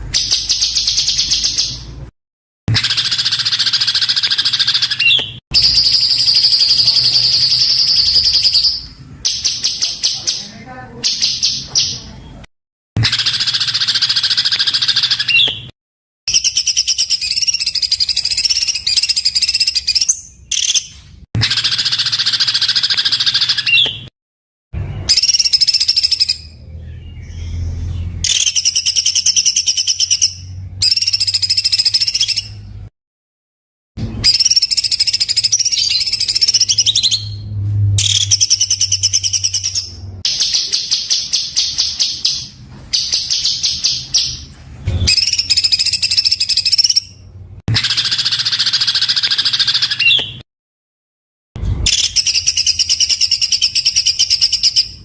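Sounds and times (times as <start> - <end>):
songbird rapid harsh song: 2.7 - 12.4, 13.0 - 15.7, 16.3 - 24.1, 24.8 - 32.9, 34.0 - 50.4.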